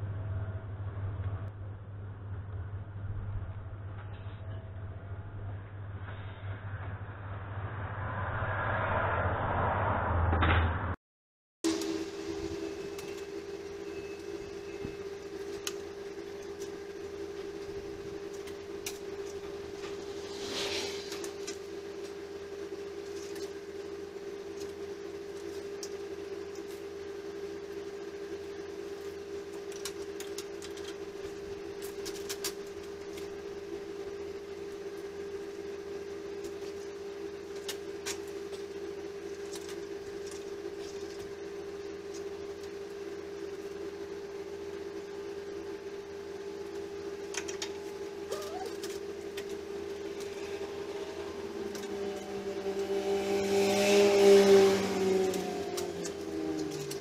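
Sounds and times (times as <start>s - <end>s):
mechanical hum: 0.0s - 11.0s, 11.6s - 57.0s.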